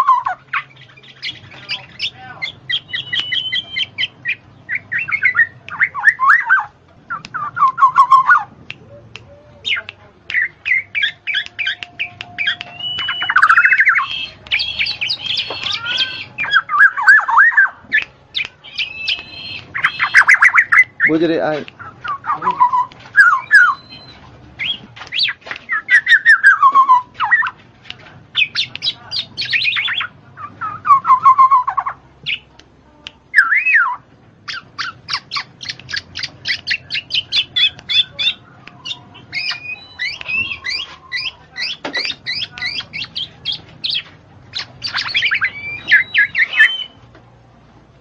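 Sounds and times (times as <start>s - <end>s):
bird singing: 0.0s - 27.6s, 28.3s - 32.5s, 33.3s - 47.1s.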